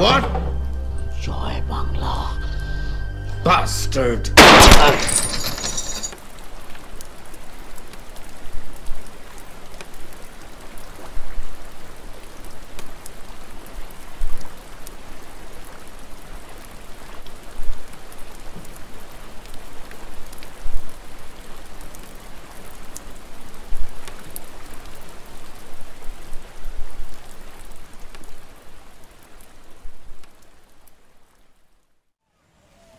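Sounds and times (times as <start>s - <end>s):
rain falling on still water: 5.8s - 32.9s.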